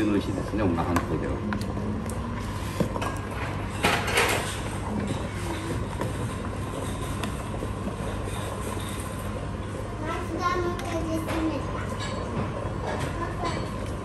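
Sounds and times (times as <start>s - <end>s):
broth boiling and bubbling: 0.0s - 14.0s.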